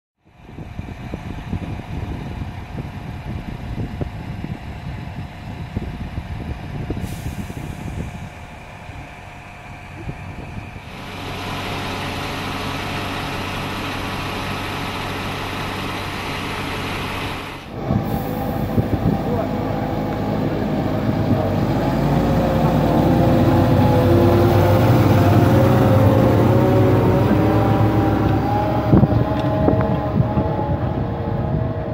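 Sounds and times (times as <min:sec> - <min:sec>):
diesel tractor engine: 0:00.2 - 0:31.9.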